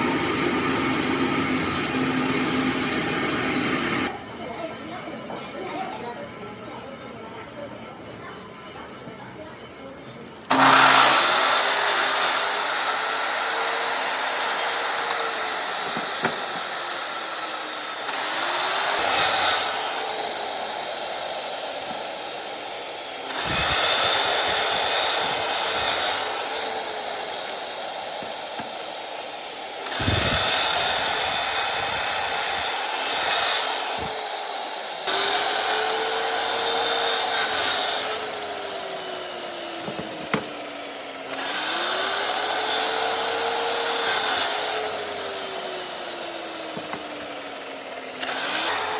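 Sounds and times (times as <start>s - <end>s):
power tool cutting wood: 0.0s - 4.1s, 10.5s - 48.9s.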